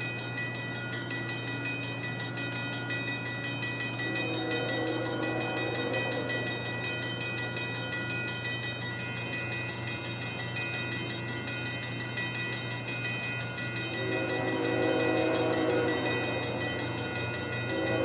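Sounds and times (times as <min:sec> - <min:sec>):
train running past: 0:00.0 - 0:18.0.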